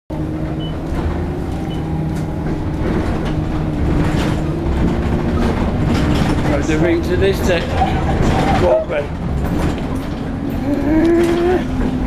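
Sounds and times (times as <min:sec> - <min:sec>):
bus engine droning: 0:00.1 - 0:12.0.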